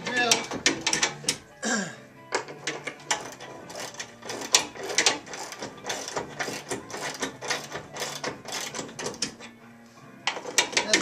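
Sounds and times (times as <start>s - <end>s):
ratchet wrench clicking: 0.0s - 1.4s, 2.4s - 9.5s, 10.3s - 11.0s.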